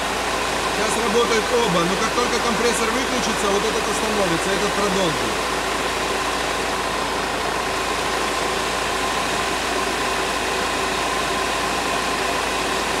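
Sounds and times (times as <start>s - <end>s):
diesel engine idling: 0.0s - 13.0s
electric cooling fans running: 0.0s - 13.0s.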